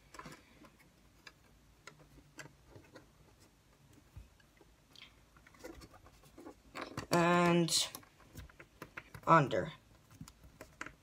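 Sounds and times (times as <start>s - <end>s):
wooden sticks clicking and tapping: 0.0s - 11.0s.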